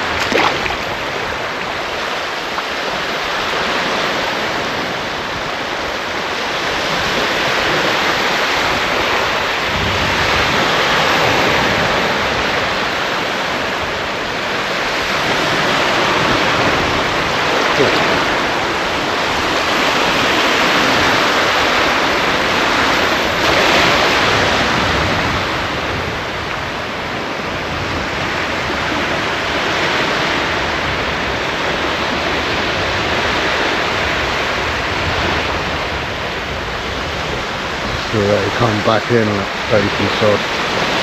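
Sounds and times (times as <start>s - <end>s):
waves breaking on shore: 0.0s - 41.0s.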